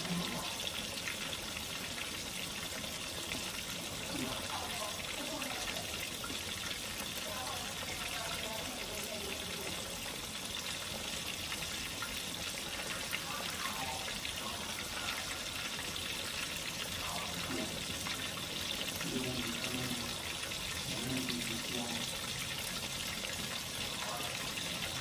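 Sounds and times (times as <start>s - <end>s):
fish deep-frying in oil: 0.0s - 25.0s.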